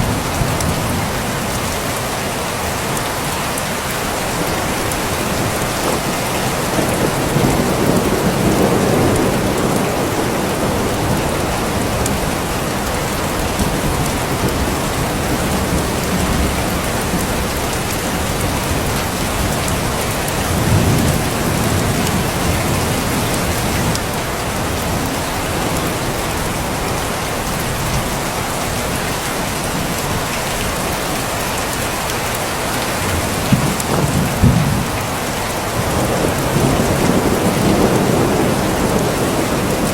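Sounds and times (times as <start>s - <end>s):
heavy rain falling: 0.0s - 39.9s
thunder rumbling: 4.3s - 28.9s, 32.4s - 39.9s.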